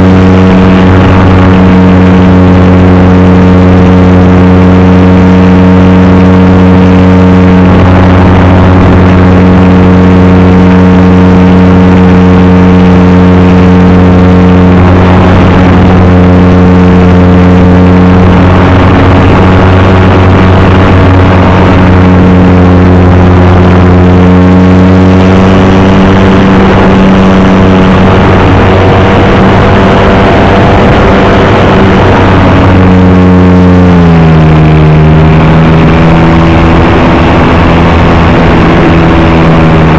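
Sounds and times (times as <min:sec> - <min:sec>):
model airplane engine: 0:00.0 - 0:39.9.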